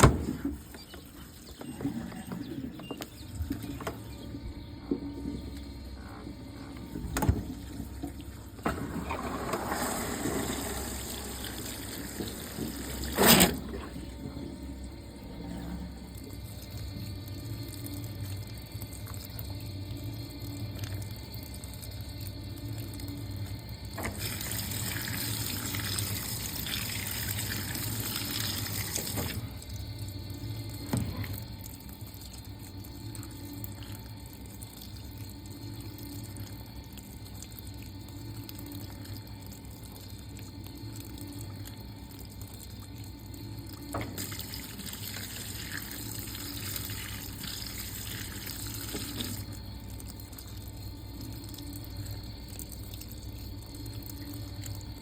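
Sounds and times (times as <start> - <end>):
low machine hum: 0.0 - 55.0
water rushing into washing machine: 0.0 - 55.0
water trickling: 0.0 - 55.0.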